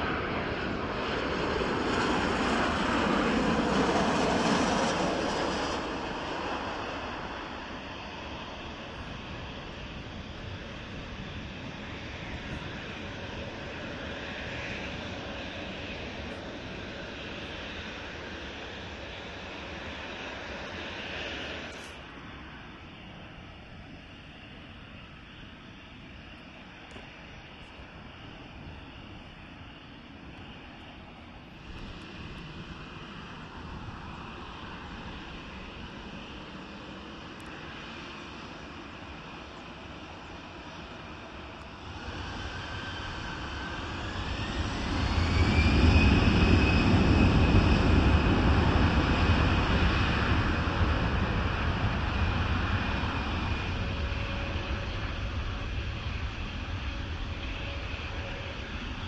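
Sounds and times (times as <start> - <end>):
deep jet engine rumble: 0.0 - 59.0
jet engines whining: 0.0 - 59.0.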